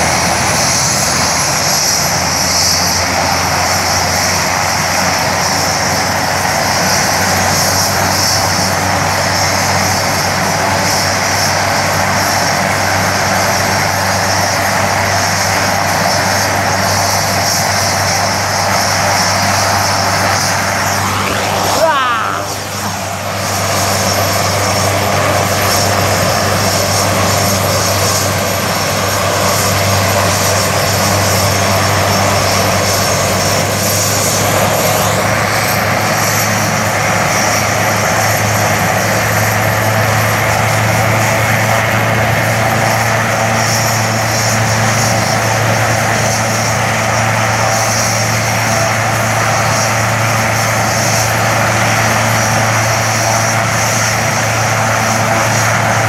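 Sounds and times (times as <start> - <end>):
helicopter turbine whine: 0.0 - 56.0
rotor drone: 0.0 - 56.0.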